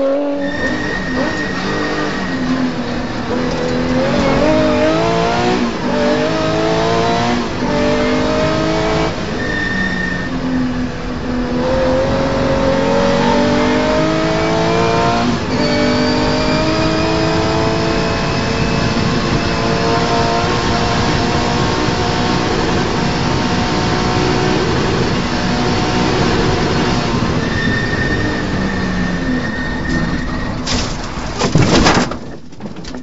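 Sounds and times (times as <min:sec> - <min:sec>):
car engine accelerating hard: 0:00.0 - 0:09.7, 0:10.3 - 0:30.4.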